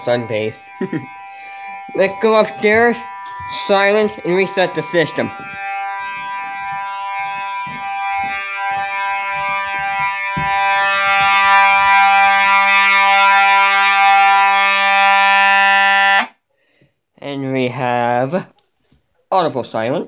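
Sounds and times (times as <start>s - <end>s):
fire alarm horn buzzing: 0.0s - 16.4s.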